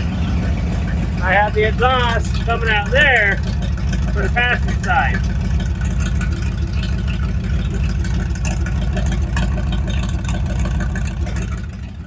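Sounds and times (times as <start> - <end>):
engine idling rumble: 0.0 - 12.0.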